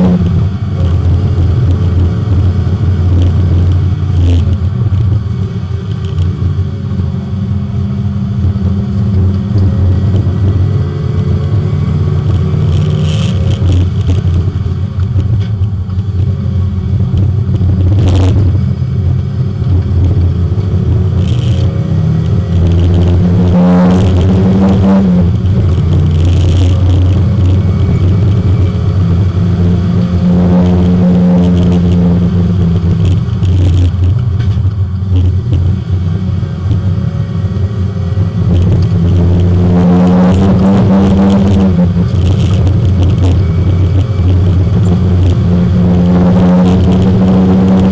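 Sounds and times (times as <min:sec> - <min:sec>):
race car engine from inside: 0:00.0 - 0:47.9.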